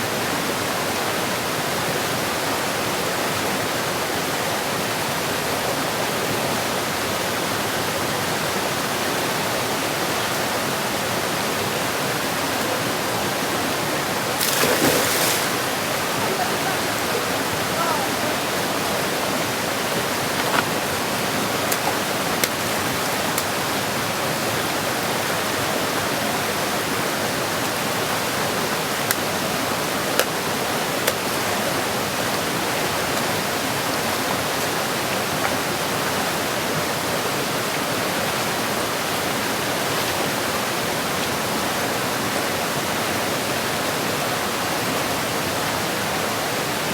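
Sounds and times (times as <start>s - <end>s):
stream rushing over stones: 0.0s - 46.9s.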